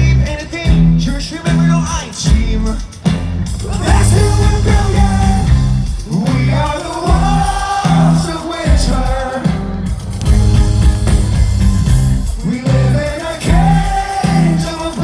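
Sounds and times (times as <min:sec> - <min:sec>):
person singing lead vocal: 0:00.0 - 0:10.0, 0:12.3 - 0:15.0
live rock band through pa: 0:00.0 - 0:15.0.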